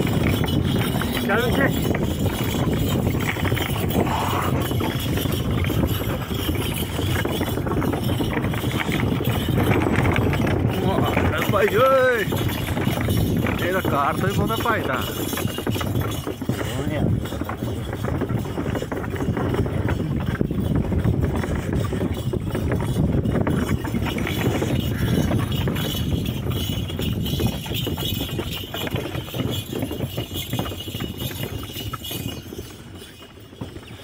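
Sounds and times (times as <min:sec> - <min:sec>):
wooden cart rattling: 0:00.0 - 0:34.0.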